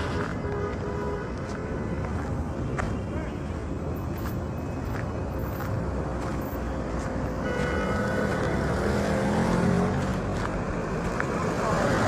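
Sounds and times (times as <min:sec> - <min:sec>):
rumble of passing vehicles: 0:00.0 - 0:12.0
vehicle engine: 0:00.0 - 0:12.0.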